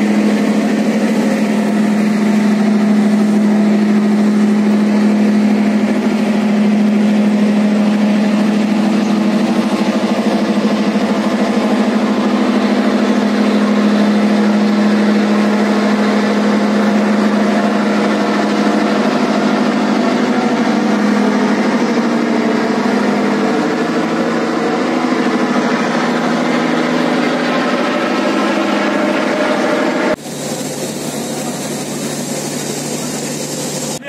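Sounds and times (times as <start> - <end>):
boat engine humming: 0.0 - 34.0
water rushing: 0.0 - 34.0
wind: 0.0 - 34.0.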